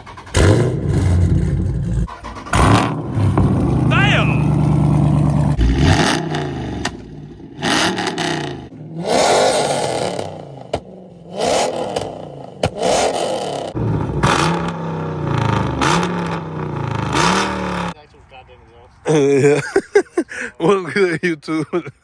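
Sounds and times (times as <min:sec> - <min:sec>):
car exhaust revving: 0:00.0 - 0:18.0
sharp exhaust cracks: 0:00.0 - 0:18.0.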